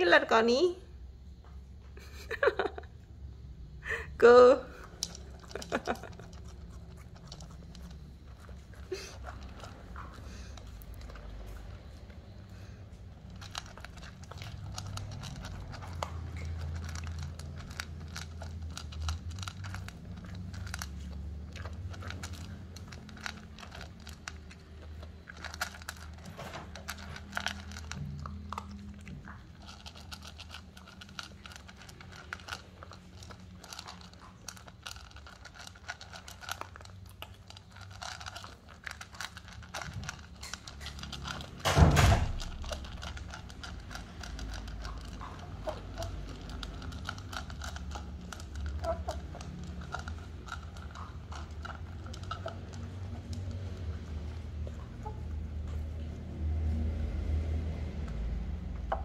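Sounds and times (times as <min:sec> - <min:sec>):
dog crunching dry kibble: 0:04.7 - 0:59.0.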